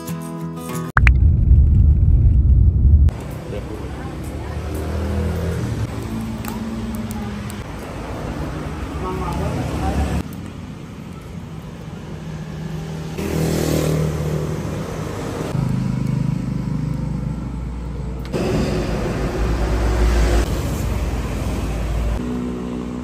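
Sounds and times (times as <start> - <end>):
vehicles passing: 1.0 - 23.0.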